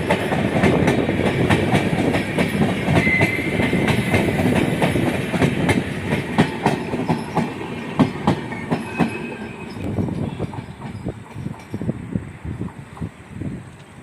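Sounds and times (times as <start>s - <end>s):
train rumble: 0.0s - 14.0s
train wheels clacking over rail joints: 0.0s - 14.0s.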